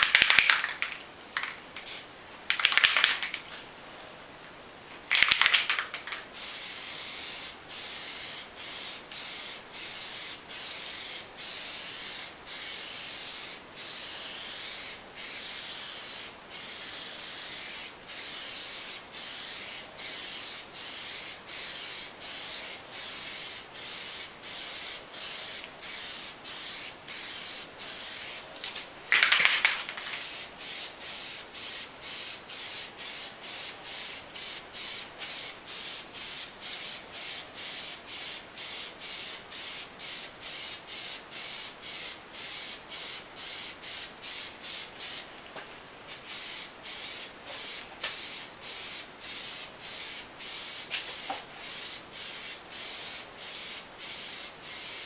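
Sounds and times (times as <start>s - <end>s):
aerosol can spraying: 0.0s - 3.5s, 5.1s - 45.3s, 46.1s - 55.0s.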